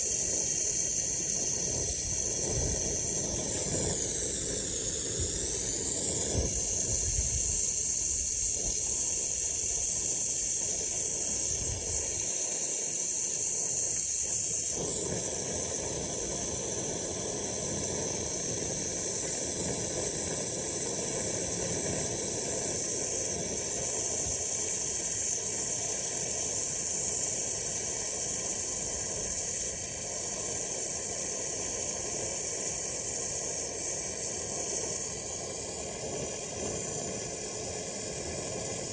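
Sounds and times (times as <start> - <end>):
torch flame hissing: 0.0 - 38.9.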